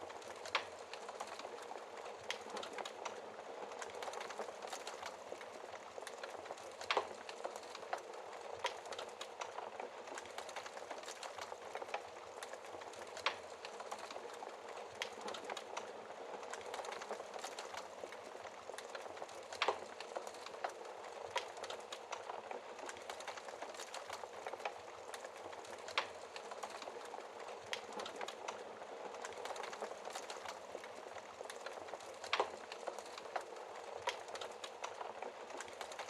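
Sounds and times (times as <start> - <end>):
wood fire crackling and hissing: 0.0 - 36.0.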